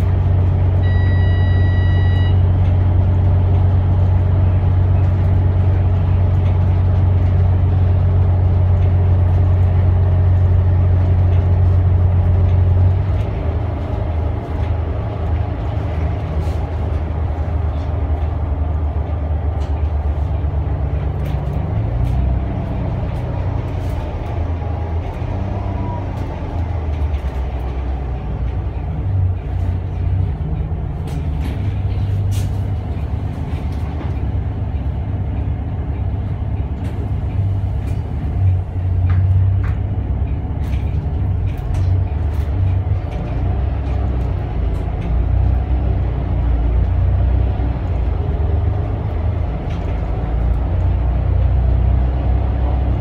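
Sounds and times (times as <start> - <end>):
bus diesel engine droning: 0.0 - 53.0.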